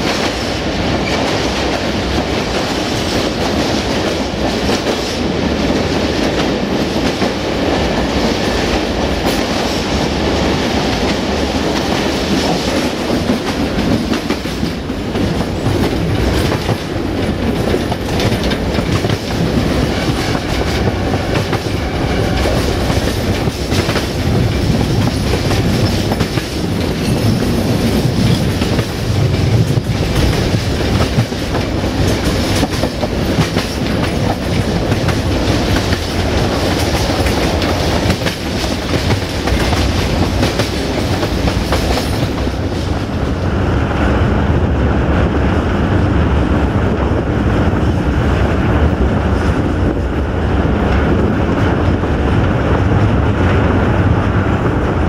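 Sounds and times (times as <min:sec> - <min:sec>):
clickety-clack over rail joints: 0:00.0 - 0:55.0
train wheels rumbling on rail: 0:00.0 - 0:55.0.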